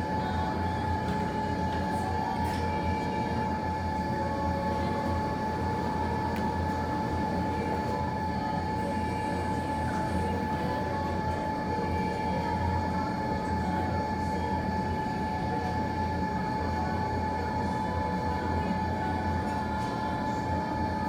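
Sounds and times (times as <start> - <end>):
thin steady whine: 0.0 - 21.0.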